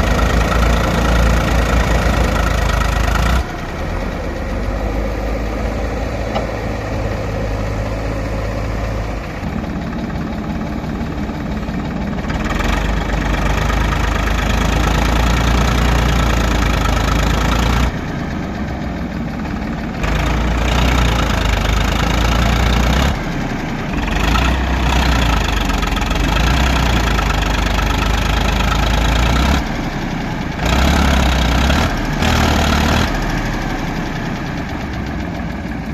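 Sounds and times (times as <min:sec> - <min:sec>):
backhoe diesel engine running: 0:00.0 - 0:35.9.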